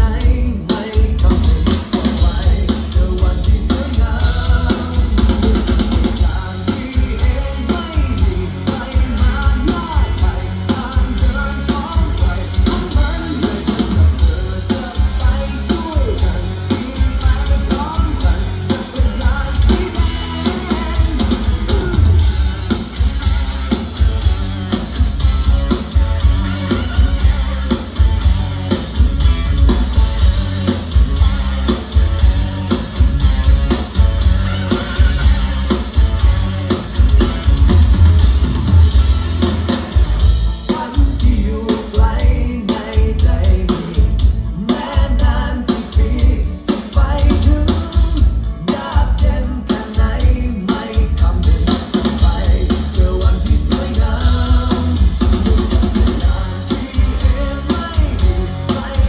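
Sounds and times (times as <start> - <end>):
heavy bass: 0.0 - 59.0
rock song through car speakers: 0.0 - 59.0.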